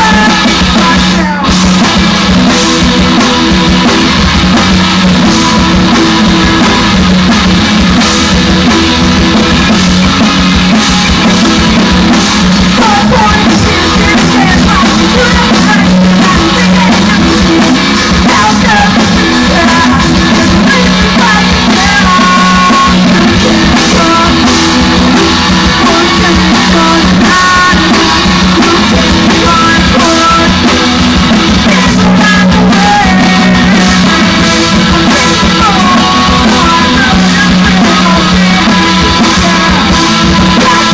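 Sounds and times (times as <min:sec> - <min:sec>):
live rock band playing: 0:00.0 - 0:40.9
person singing: 0:00.0 - 0:40.9.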